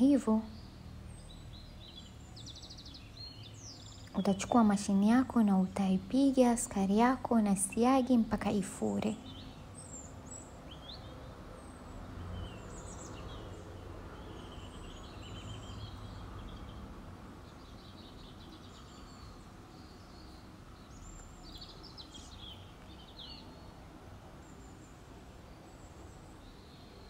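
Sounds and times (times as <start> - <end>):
birds chirping: 0.0 - 27.0
low background noise: 0.0 - 27.0.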